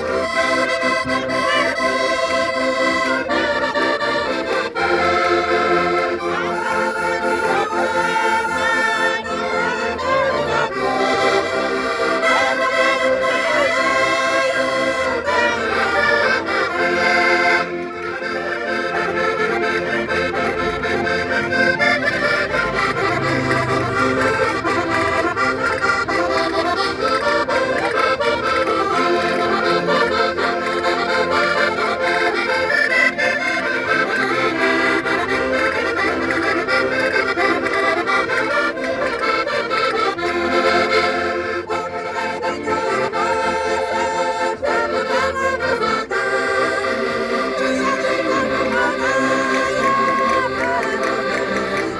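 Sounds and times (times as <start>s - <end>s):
concertinas playing folk tune: 0.0s - 51.9s.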